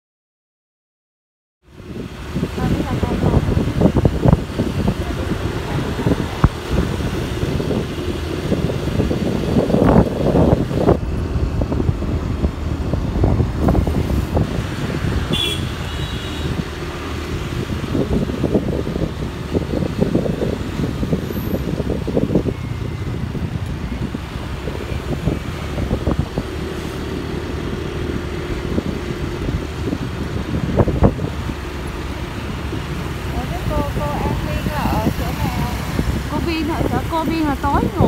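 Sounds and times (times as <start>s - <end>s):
motorbike engine and road rumble: 1.6s - 38.0s
wind buffeting microphone: 1.7s - 38.0s.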